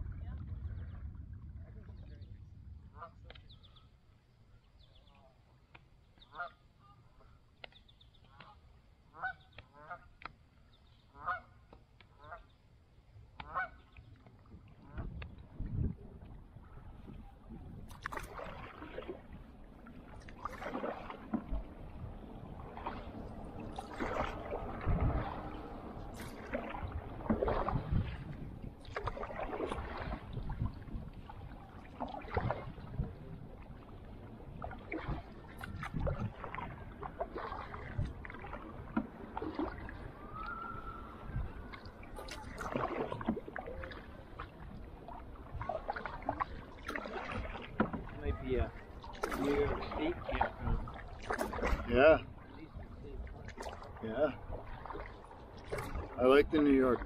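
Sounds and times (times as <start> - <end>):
low wash of water: 0.0 - 4.4, 13.0 - 57.0
canoe paddles splashing: 0.0 - 57.0.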